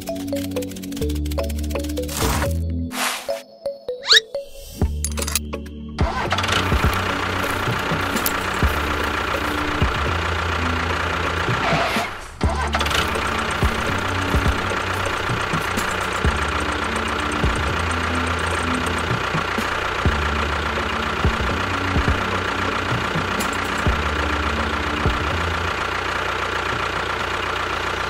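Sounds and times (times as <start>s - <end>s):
small engine running: 0.0s - 2.6s, 6.0s - 28.0s.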